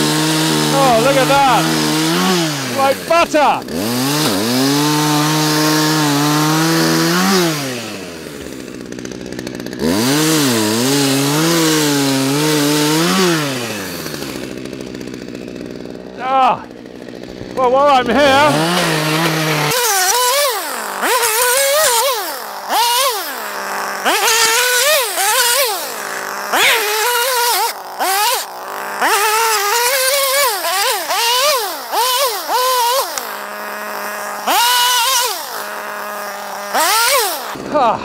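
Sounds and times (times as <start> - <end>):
chainsaw cutting wood: 0.0 - 38.0
chainsaw revving and idling: 0.0 - 38.0.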